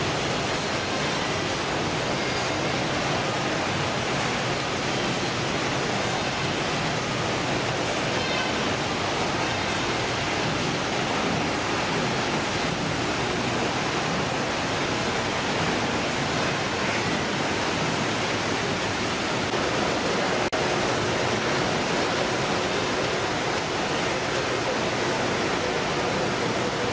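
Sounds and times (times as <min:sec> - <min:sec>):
processing machinery and conveyors running: 0:00.0 - 0:26.9.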